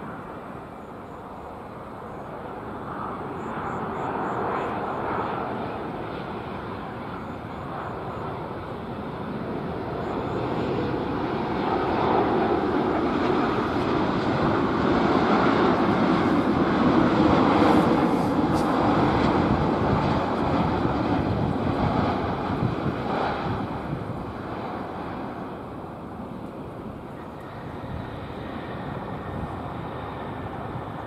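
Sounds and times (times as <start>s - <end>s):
jet airliner engines rushing: 0.0s - 31.0s.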